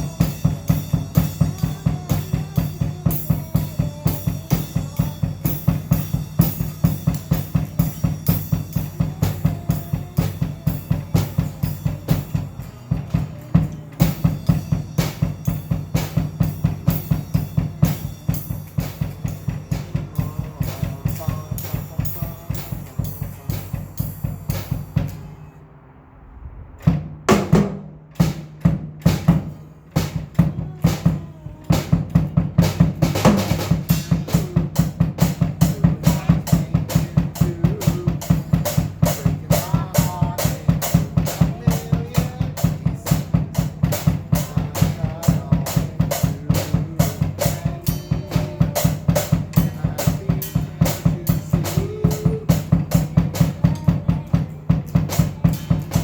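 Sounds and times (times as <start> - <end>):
drum kit beat: 0.0 - 25.5, 26.8 - 56.0.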